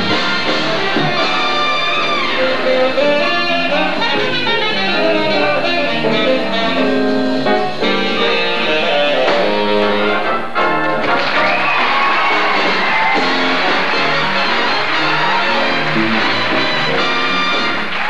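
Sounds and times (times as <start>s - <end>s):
big band playing jazz: 0.0s - 18.0s
drum kit: 0.0s - 18.0s
horns: 0.0s - 18.0s.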